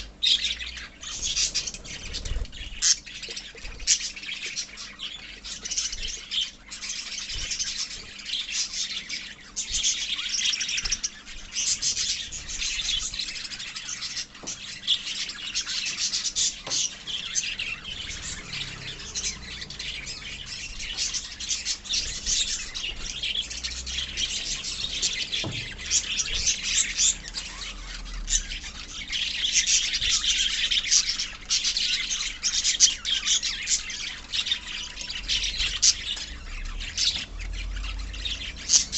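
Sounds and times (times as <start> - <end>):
lovebirds chattering and chirping: 0.0 - 38.9.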